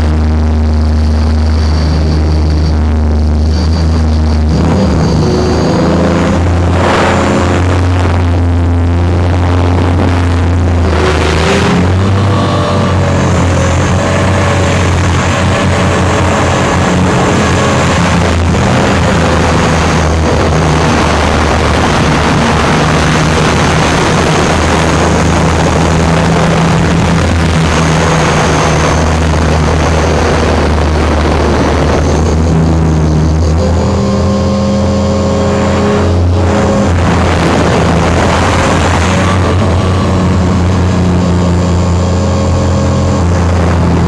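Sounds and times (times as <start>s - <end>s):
helicopter rotor and motor hum: 0.0s - 44.0s
rushing wind: 0.0s - 44.0s.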